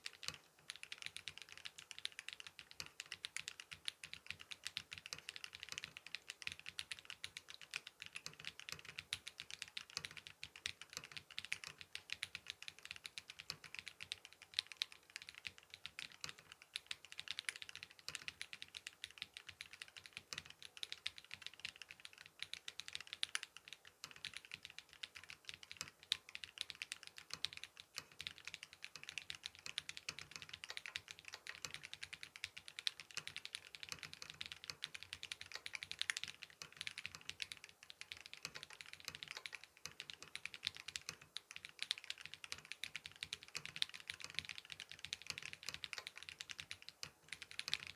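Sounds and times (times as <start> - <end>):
fast mechanical keyboard typing: 0.0 - 47.9.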